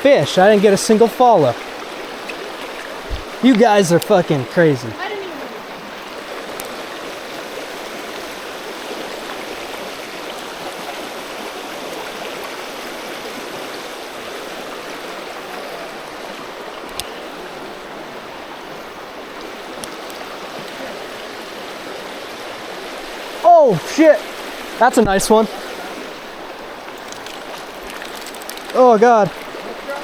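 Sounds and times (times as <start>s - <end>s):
creek flowing: 0.0s - 30.0s.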